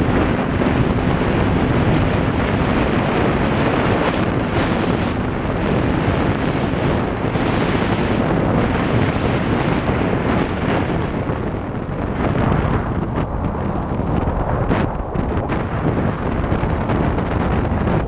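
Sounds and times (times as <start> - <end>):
snowmobile engine running: 0.0 - 18.0
wind rushing over microphone: 0.0 - 18.0.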